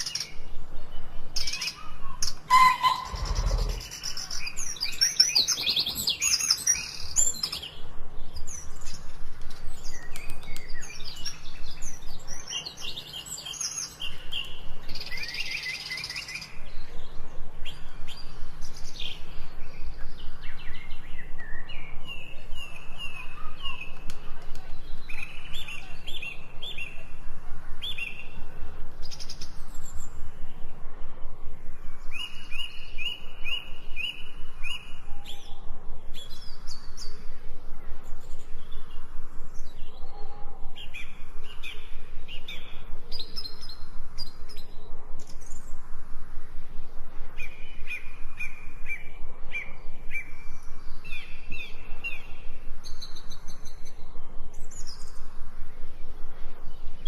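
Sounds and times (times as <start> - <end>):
repeated downward-slurred bird notes: 0.0 - 45.8
forest birds chirping and singing: 0.0 - 57.0.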